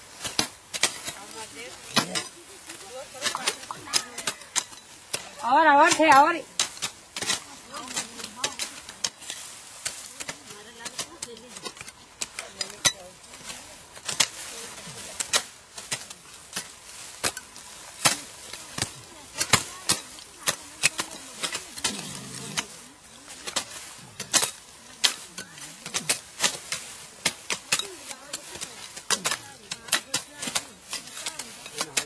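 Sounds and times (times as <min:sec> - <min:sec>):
sickles cutting stems: 0:00.0 - 0:32.0.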